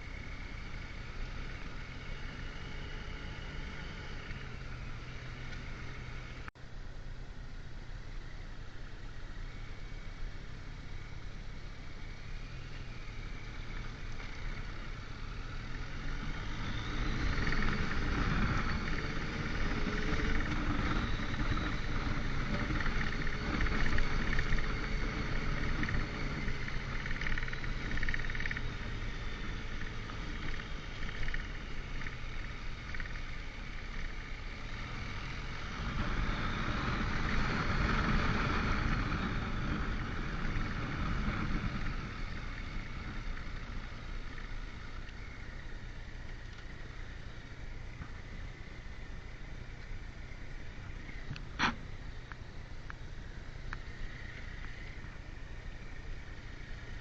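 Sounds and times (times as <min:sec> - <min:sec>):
motorcycle engine running: 0:00.0 - 0:57.0
road noise: 0:00.0 - 0:57.0
wind: 0:00.0 - 0:57.0.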